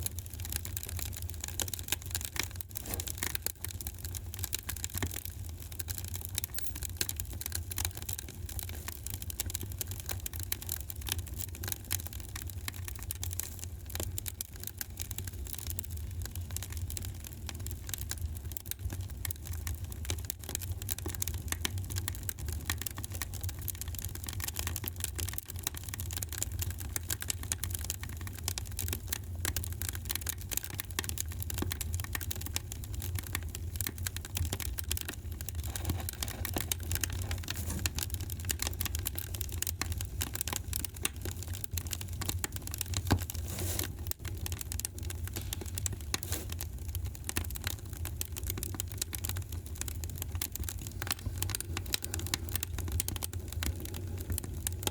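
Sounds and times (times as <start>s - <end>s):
low fire rumble: 0.0s - 54.9s
wood fire crackling and popping: 0.0s - 54.9s.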